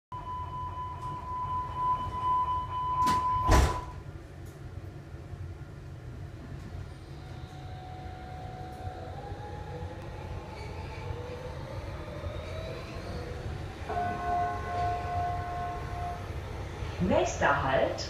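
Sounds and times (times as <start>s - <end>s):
train running gear rumble: 3.0s - 18.0s.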